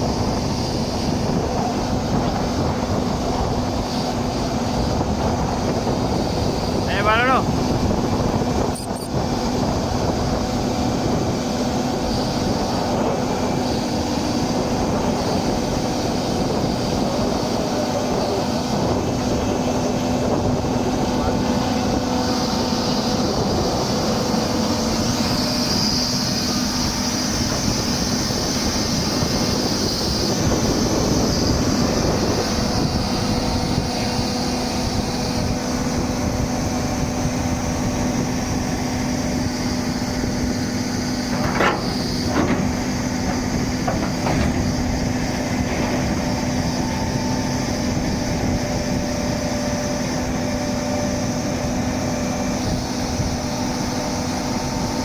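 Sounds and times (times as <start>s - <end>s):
excavator diesel engine hum: 0.0s - 55.0s.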